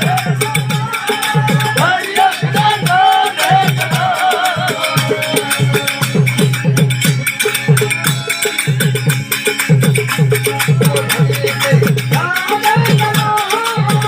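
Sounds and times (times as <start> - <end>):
quick drum beat: 0.0 - 14.0.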